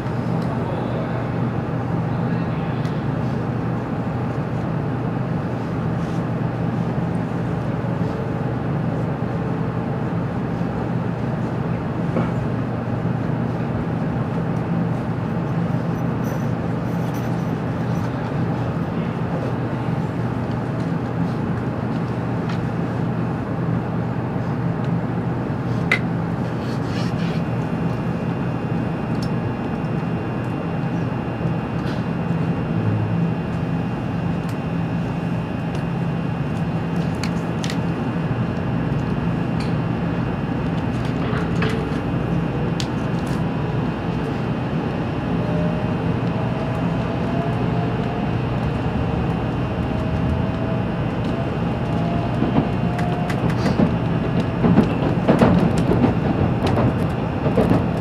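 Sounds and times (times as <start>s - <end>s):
train interior hum: 0.0s - 58.0s.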